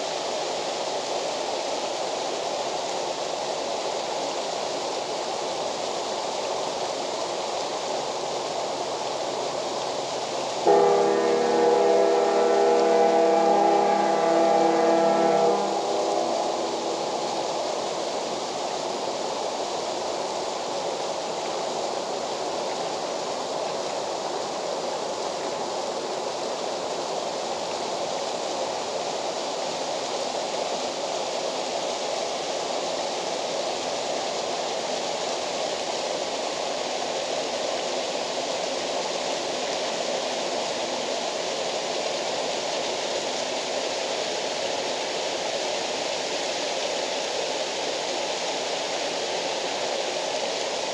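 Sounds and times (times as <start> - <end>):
waterfall roaring: 1.2 - 50.9.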